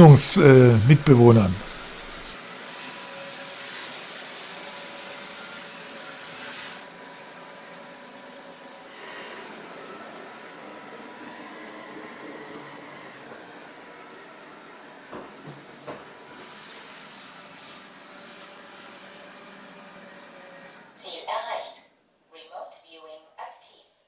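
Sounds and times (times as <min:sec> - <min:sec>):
robot vacuum running: 0:00.0 - 0:21.0.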